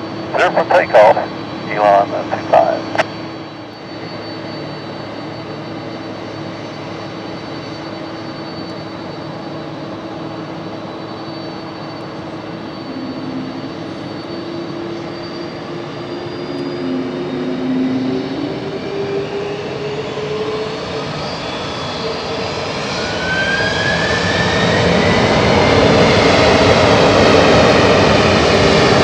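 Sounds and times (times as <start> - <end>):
jet engines at takeoff power: 0.0 - 29.0.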